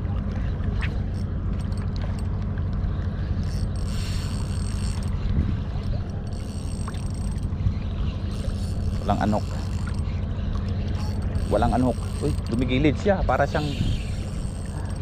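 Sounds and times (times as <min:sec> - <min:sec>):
wind rumble on microphone: 0:00.0 - 0:15.0
fishing reel gears whirring: 0:00.8 - 0:15.0.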